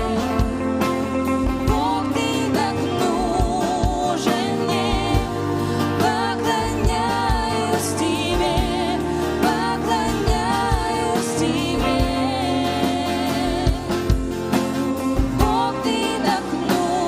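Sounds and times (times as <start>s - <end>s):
person singing with vibrato: 0.0s - 17.0s
worship song by band: 0.0s - 17.0s.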